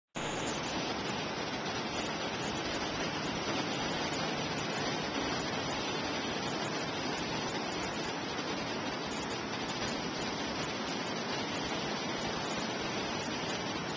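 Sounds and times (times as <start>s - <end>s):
ocean surf washing on beach: 0.2s - 13.9s.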